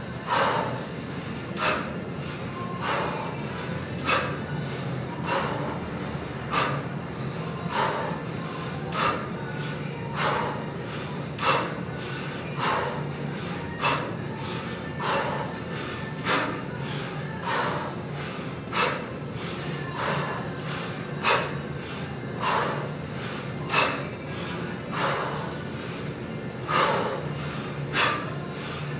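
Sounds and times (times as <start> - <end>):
man's sharp forceful breaths: 0.0 - 28.9.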